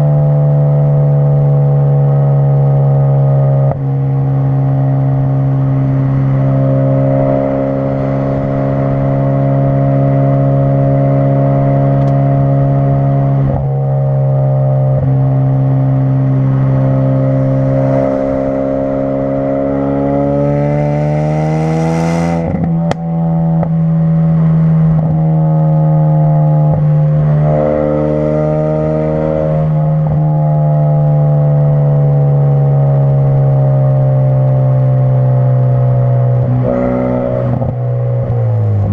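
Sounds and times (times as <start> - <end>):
car exhaust drone while driving: 0.0 - 38.9.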